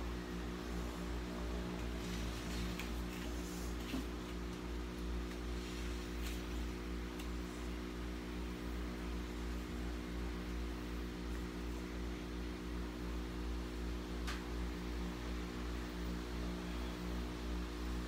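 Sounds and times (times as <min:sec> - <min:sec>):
electric fan humming: 0:00.0 - 0:18.0.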